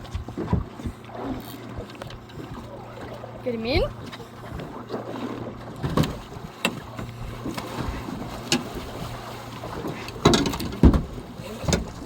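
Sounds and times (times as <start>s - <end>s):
knocks and thuds on a boat: 0.0s - 12.0s.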